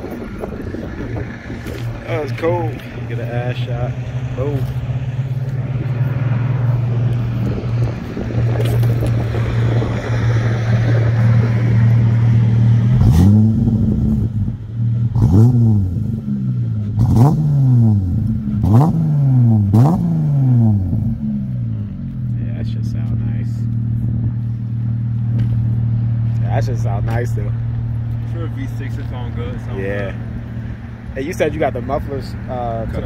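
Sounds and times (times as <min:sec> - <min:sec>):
car engine idling high: 0:00.0 - 0:33.0
engine revving in throttle blips: 0:00.0 - 0:33.0.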